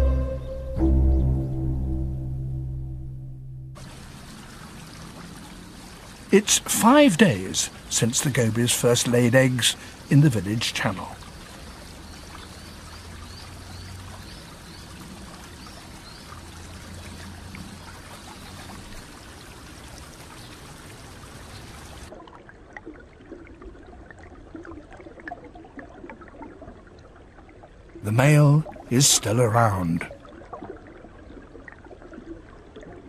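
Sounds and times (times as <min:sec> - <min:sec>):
water running in a channel: 0:03.8 - 0:33.0.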